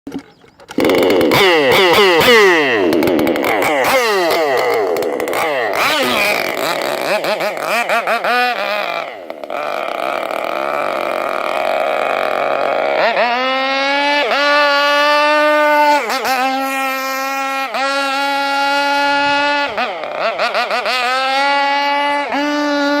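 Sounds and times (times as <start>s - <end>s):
two-stroke boat engine revving: 0.1s - 23.0s.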